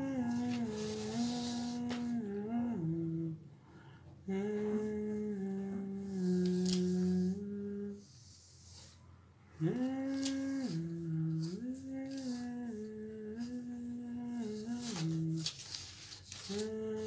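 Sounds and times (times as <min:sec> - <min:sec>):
person humming: 0:00.0 - 0:03.4, 0:04.2 - 0:08.4, 0:09.5 - 0:15.7, 0:16.3 - 0:17.0.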